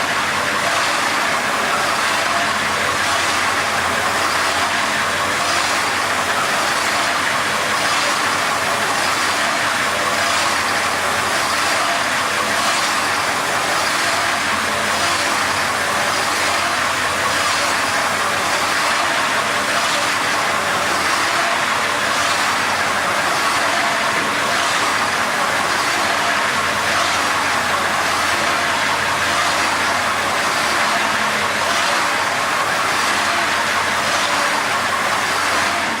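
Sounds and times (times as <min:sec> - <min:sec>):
wet grinder grinding: 0:00.0 - 0:36.0.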